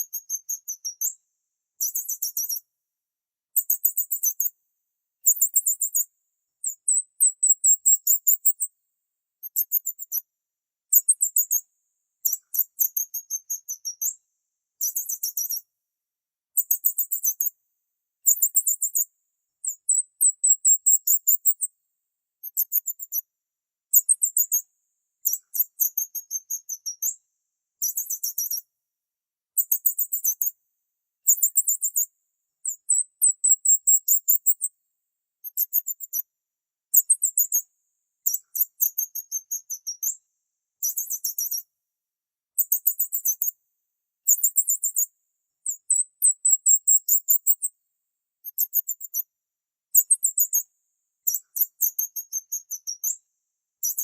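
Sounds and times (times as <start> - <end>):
small bird chirping in trills: 0.0 - 2.7, 3.5 - 4.6, 5.2 - 8.8, 9.4 - 15.7, 16.5 - 17.6, 18.2 - 21.8, 22.4 - 27.2, 27.8 - 28.7, 29.5 - 30.6, 31.2 - 34.8, 35.4 - 36.3, 36.9 - 41.7, 42.6 - 43.6, 44.2 - 47.8, 48.4 - 54.0.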